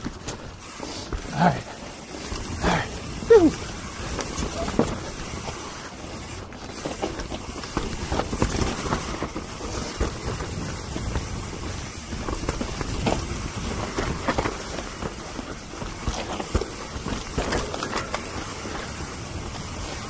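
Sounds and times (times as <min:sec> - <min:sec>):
bike knocking and clattering: 0:00.0 - 0:20.0
tyres rolling over dirt: 0:00.0 - 0:20.0.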